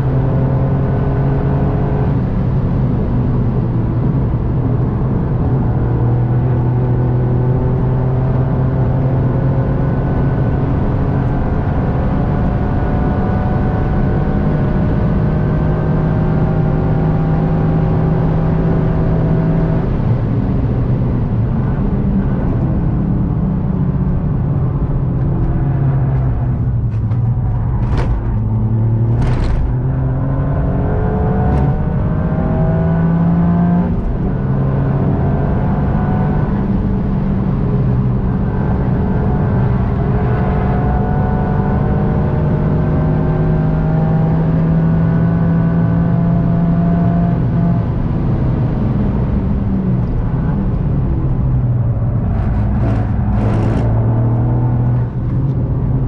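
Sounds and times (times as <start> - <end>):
car engine under load: 0.1 - 56.0.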